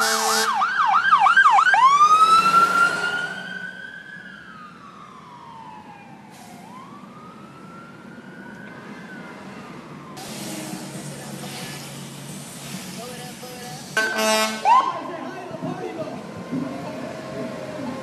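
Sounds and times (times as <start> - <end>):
emergency vehicle siren: 0.0 - 11.4, 14.0 - 15.3, 16.2 - 18.0.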